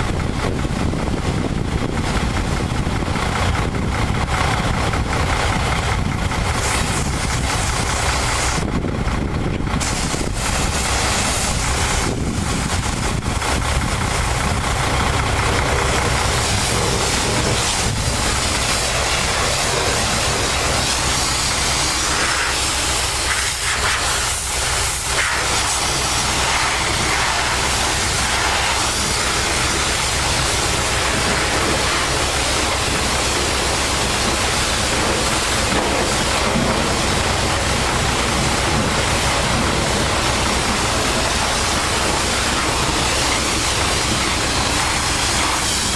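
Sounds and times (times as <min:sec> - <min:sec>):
engine drone: 0:00.0 - 0:45.9
pressure washer spray hissing: 0:06.6 - 0:08.6, 0:09.8 - 0:45.9.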